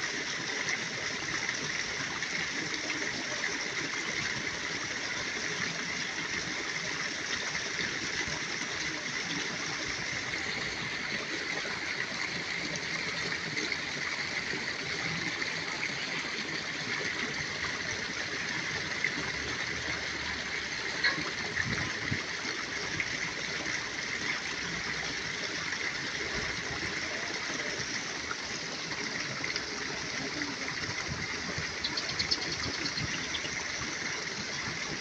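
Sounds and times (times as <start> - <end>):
water rushing in channel: 0.0 - 35.0.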